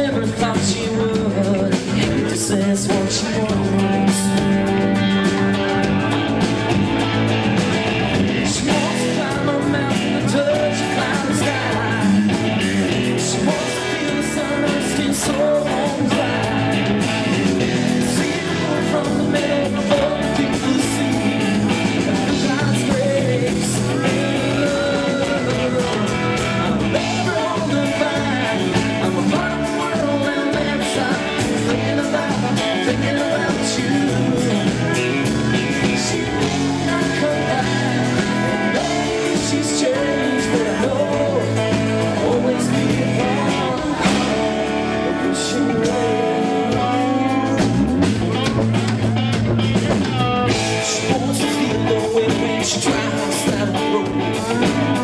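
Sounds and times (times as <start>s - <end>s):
country-rock band playing live: 0.0s - 55.0s.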